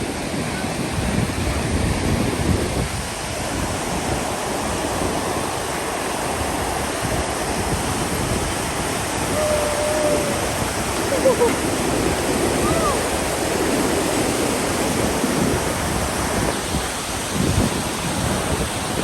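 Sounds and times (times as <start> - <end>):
river water roaring: 0.0 - 19.0.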